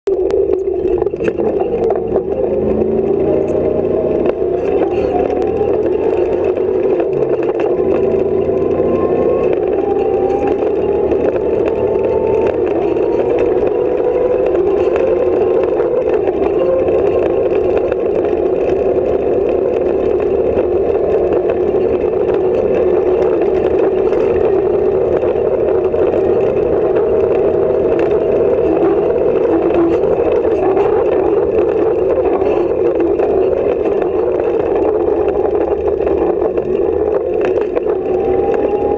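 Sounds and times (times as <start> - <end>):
loud car engine: 0.0 - 38.9
bodywork rattles and knocks: 0.1 - 38.9.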